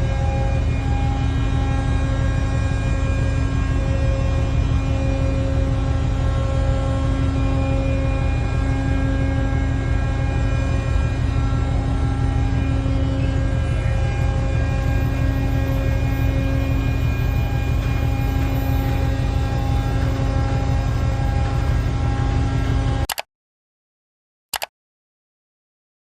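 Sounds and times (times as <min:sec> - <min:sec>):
heavy machinery droning: 0:00.0 - 0:23.1
steady whining tones: 0:00.0 - 0:23.1.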